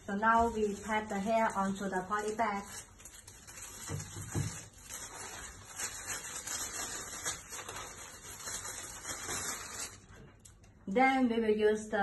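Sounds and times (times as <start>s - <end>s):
plastic bag rustling and crinkling: 0.0s - 10.6s.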